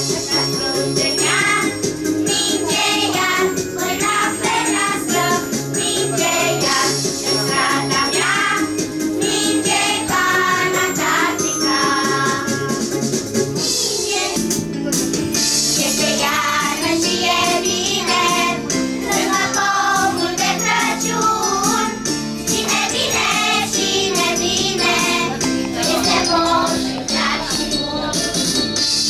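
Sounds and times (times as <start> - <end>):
children's choir singing: 0.0 - 12.8, 15.8 - 29.0.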